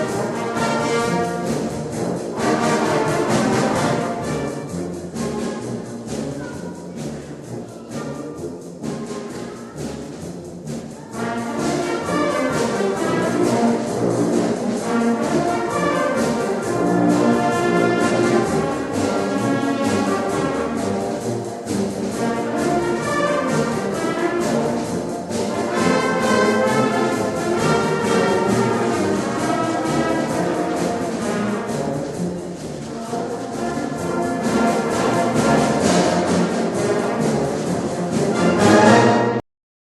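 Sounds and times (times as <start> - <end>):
orchestral music led by brass: 0.0 - 39.4.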